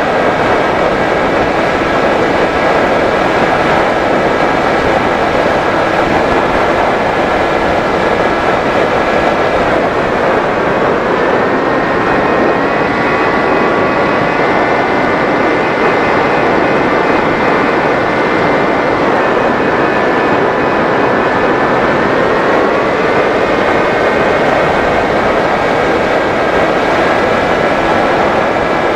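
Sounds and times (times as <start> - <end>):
electric motor and propeller whining: 0.0 - 28.9
wind rushing: 0.0 - 28.9.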